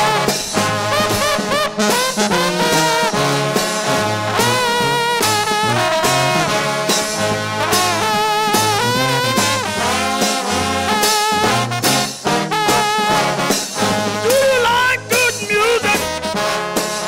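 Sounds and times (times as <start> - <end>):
bass line: 0.0 - 17.0
trombone band playing gospel: 0.0 - 17.0.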